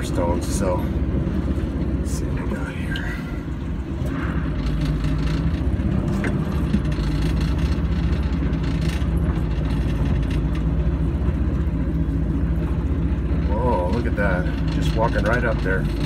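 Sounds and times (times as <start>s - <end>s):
car engine running under load: 0.0s - 16.0s.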